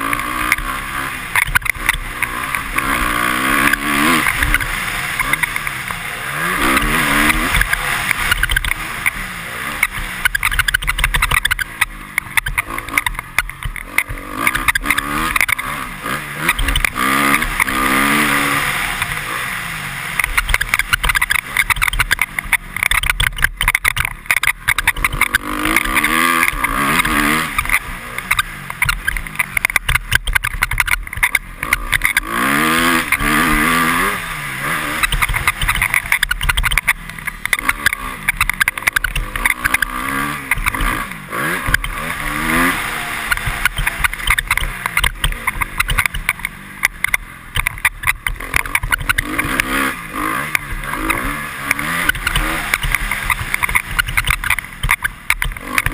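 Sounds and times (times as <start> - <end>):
motorcycle engine revving: 0.0 - 55.9
helmet visor clicks and squeaks: 1.3 - 3.0, 6.6 - 15.7, 16.4 - 17.8, 20.2 - 33.9, 34.7 - 55.9.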